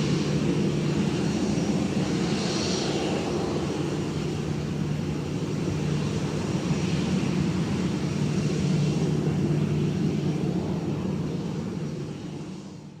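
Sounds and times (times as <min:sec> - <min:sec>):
jet engines humming: 0:00.0 - 0:13.0.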